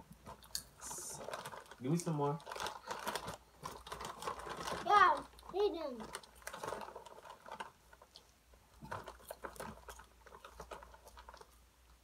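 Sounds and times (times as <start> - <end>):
person chewing popcorn: 0.0 - 12.0.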